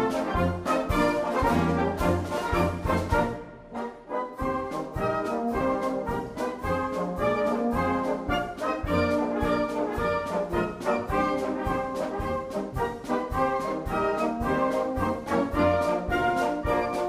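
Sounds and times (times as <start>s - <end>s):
bass drum and snare beat: 0.0s - 3.4s, 4.7s - 17.0s
marching wind band: 0.0s - 17.0s.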